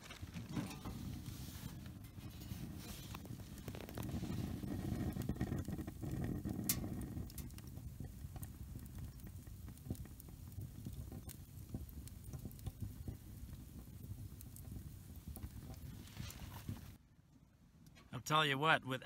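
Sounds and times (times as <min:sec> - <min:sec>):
fire crackling and popping: 0:00.0 - 0:17.0
fire rushing in stove: 0:00.0 - 0:17.0.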